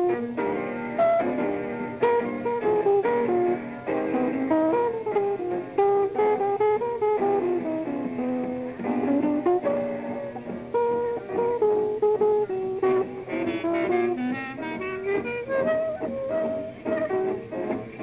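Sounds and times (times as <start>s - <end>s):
jazz guitar melody: 0.0s - 18.0s
piano: 0.0s - 18.0s.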